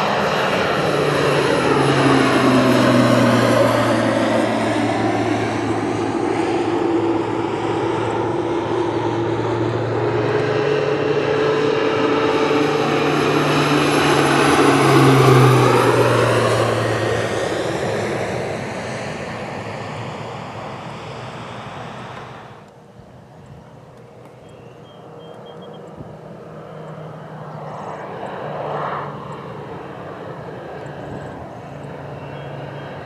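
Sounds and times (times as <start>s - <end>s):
propeller airplane flying past: 0.0s - 33.0s.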